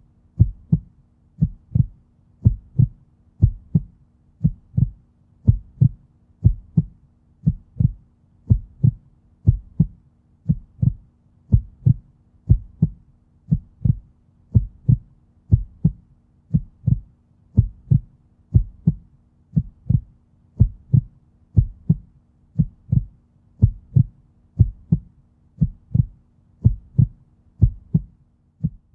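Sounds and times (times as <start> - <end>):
faint low hum: 0.0 - 28.9
heartbeat thumps: 0.4 - 28.9.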